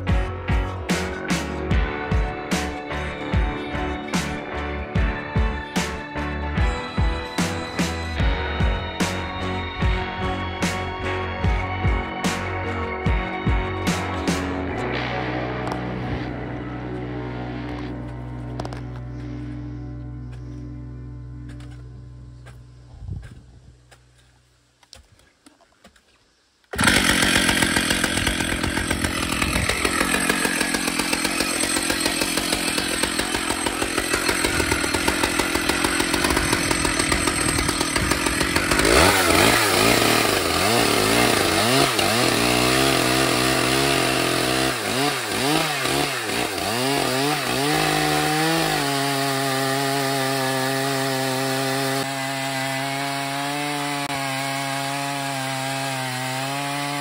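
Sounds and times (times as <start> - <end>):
chainsaw running at high revs: 0.0 - 16.5, 26.7 - 57.0
chainsaw cutting through log: 0.0 - 19.5, 26.7 - 57.0.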